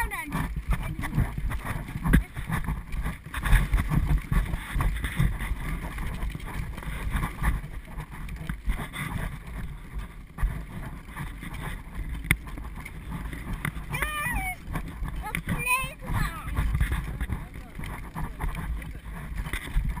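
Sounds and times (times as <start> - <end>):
wheels rumbling on asphalt: 0.0 - 20.0
wind buffeting microphone: 0.0 - 20.0.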